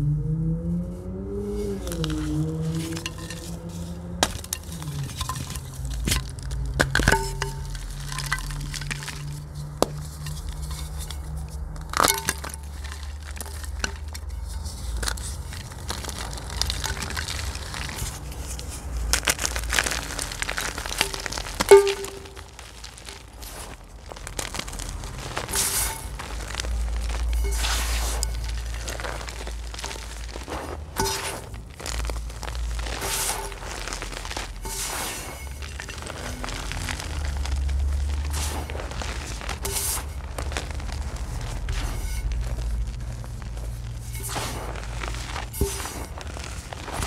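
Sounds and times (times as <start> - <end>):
chalk cracking and crunching: 1.3 - 47.0
chalk crumbling: 1.4 - 47.0.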